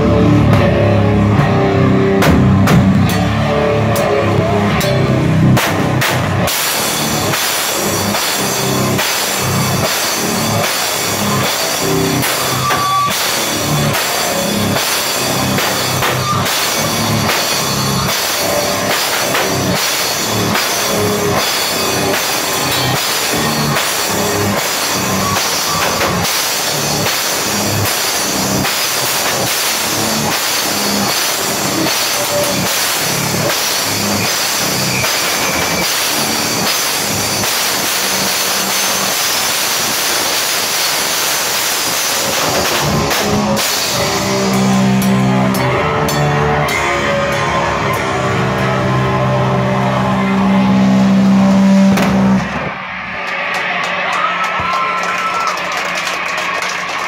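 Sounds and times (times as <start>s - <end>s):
heavy guitar chords: 0.0s - 54.2s
hardcore band playing loud: 0.0s - 57.0s
crashing cymbals: 1.2s - 54.2s.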